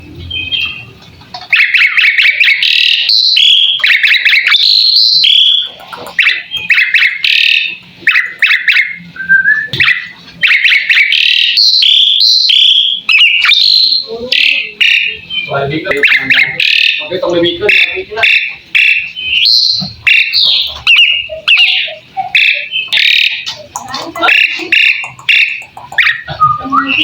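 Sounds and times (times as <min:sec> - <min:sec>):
bird singing whistled notes: 0:00.1 - 0:23.5, 0:24.2 - 0:27.0.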